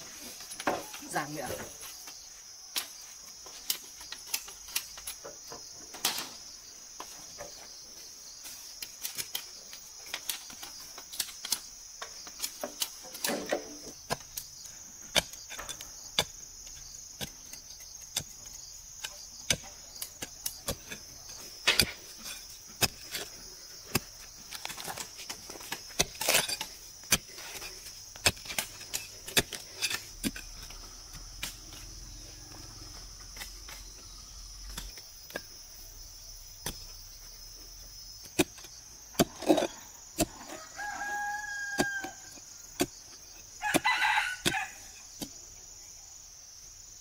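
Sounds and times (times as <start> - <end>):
earth being dug: 0.0 - 45.5
insects chirring: 0.0 - 47.0.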